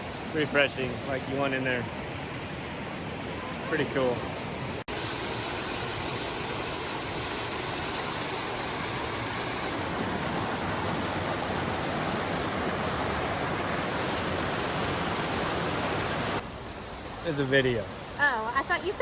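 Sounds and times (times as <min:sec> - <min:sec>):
waterfall rushing over rocks: 0:03.2 - 0:19.0.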